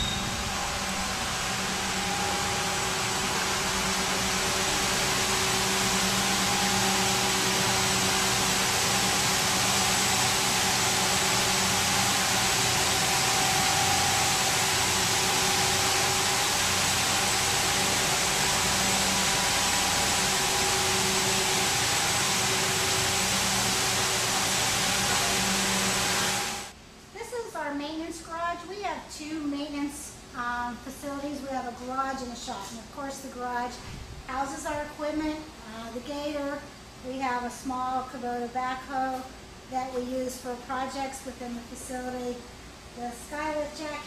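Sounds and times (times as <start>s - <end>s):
machinery hum and hiss: 0.0s - 44.0s.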